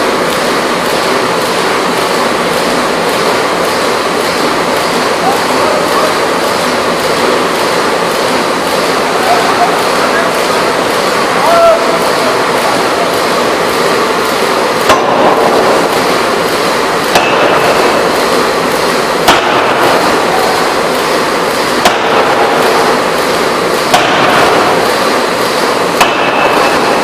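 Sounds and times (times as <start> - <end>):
steady machinery noise: 0.0 - 27.0
forging hammer blows: 0.7 - 27.0.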